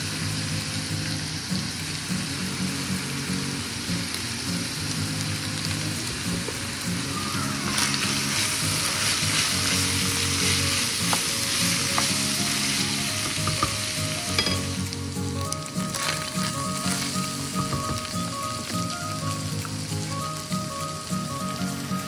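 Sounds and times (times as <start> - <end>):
meat sizzling in a skillet: 0.0 - 22.0
music: 0.0 - 22.0.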